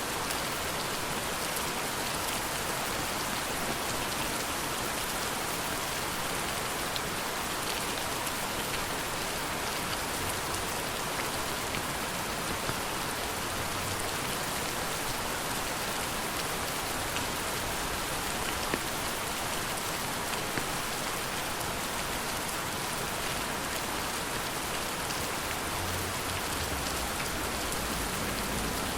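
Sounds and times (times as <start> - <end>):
steady rain hiss: 0.0 - 28.9.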